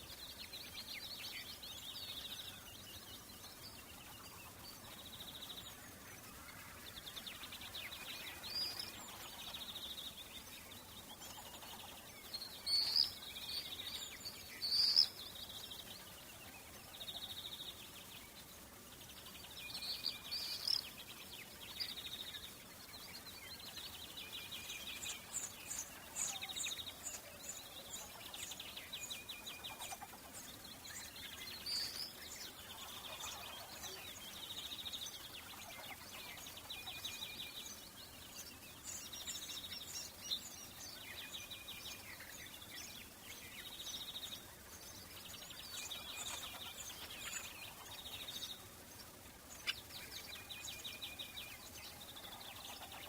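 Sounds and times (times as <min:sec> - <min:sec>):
faint outdoor background: 0:00.0 - 0:53.0
songbirds singing and chirping: 0:00.0 - 0:53.0.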